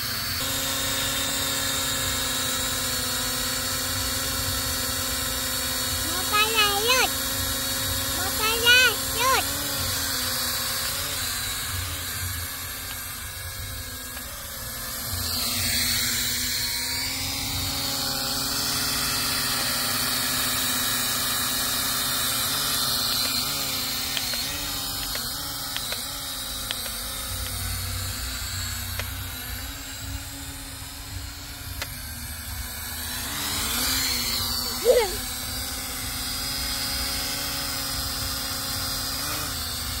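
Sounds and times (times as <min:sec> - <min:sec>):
toy drone propeller whine: 0:00.0 - 0:40.0.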